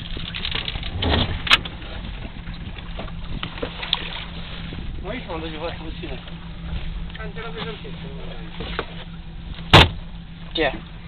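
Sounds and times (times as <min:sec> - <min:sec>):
boat engine hum: 0:00.0 - 0:11.0
water and wind noise: 0:00.0 - 0:11.0.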